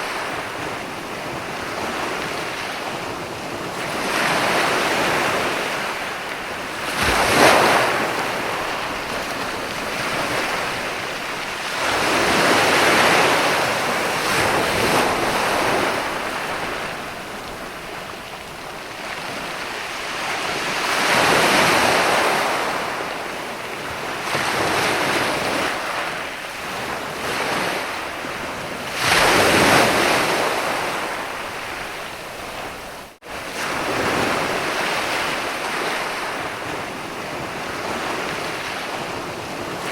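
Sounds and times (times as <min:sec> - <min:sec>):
waves breaking on sand: 0:00.0 - 0:39.9.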